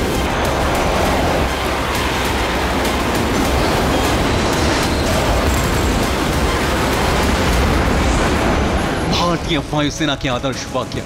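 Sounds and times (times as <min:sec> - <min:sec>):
jet engines roaring: 0:00.0 - 0:10.5.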